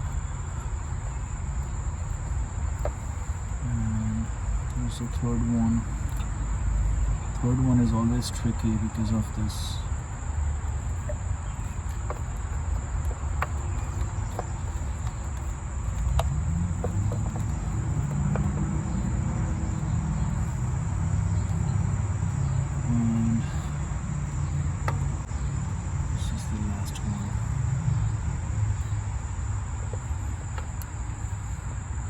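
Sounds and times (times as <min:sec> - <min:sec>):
continuous low rumble: 0:00.0 - 0:32.0
cricket trill: 0:00.0 - 0:32.0.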